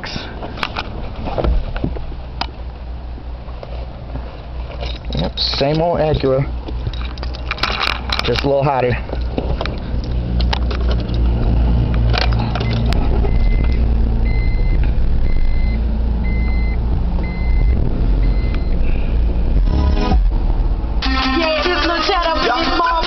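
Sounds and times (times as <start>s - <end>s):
engine rumble inside car cabin: 0.0s - 23.0s.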